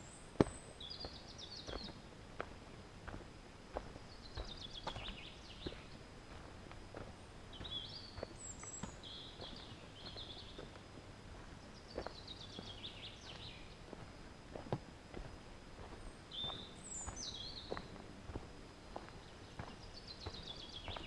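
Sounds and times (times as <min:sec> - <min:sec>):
songbird singing trills: 0:00.0 - 0:03.2, 0:03.8 - 0:14.6, 0:15.8 - 0:21.0
footsteps on a trail: 0:00.0 - 0:21.0.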